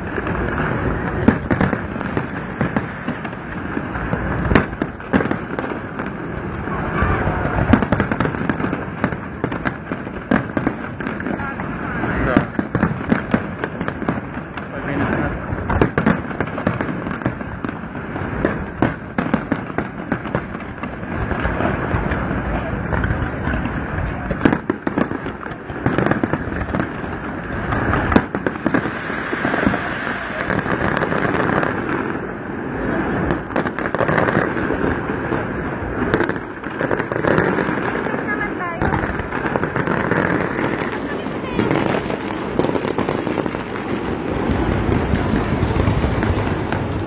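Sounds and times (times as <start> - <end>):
crowd voices: 0.0 - 15.8, 20.0 - 47.0
fireworks bangs and pops: 0.0 - 47.0.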